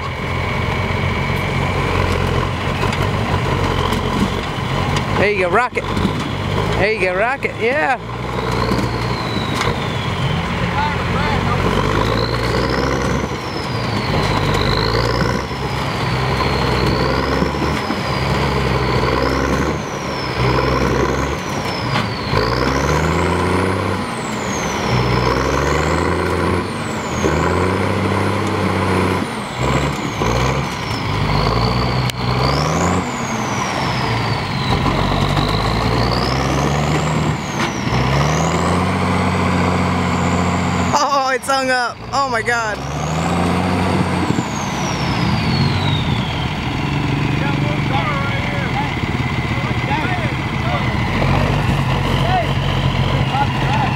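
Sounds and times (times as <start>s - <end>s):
truck engine revving with whine: 0.0s - 53.9s.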